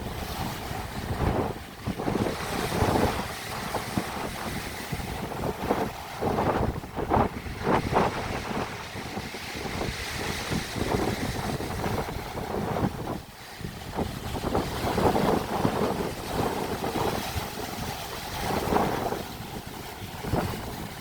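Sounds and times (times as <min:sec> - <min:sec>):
sea waves splashing: 0:00.0 - 0:21.0
wind buffeting microphone: 0:00.0 - 0:21.0.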